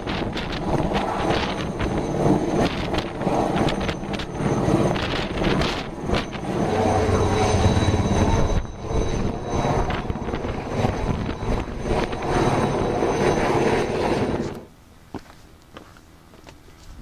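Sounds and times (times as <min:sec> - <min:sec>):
helicopter rotor pulsing: 0:00.0 - 0:14.7.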